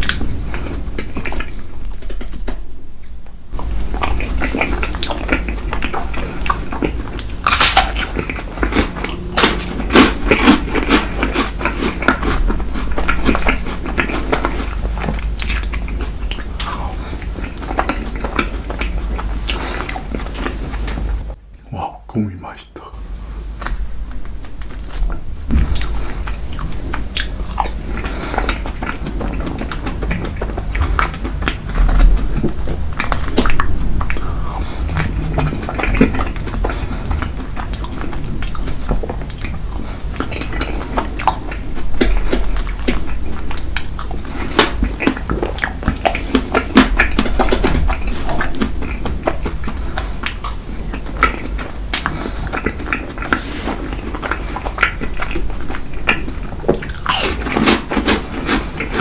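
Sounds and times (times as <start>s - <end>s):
person chewing: 0.0s - 21.4s, 23.0s - 59.0s.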